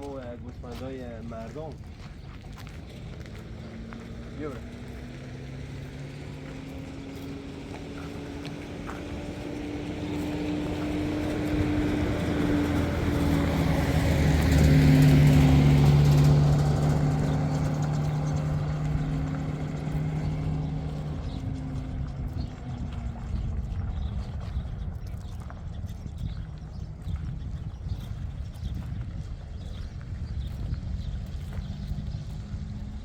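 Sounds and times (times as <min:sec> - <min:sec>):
vehicle engine droning past: 0:00.1 - 0:33.0.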